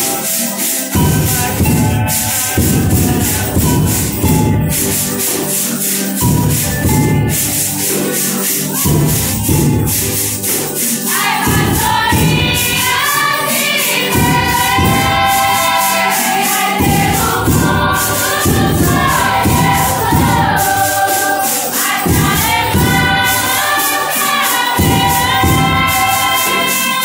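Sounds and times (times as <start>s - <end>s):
choir singing a hymn: 0.0s - 27.0s
tambourine beat: 0.0s - 27.0s.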